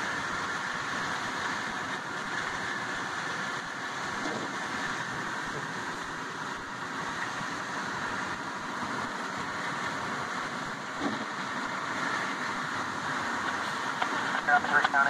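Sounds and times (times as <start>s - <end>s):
car cabin road and engine noise: 0.0s - 15.0s
windshield wiper sweeping: 0.0s - 15.0s.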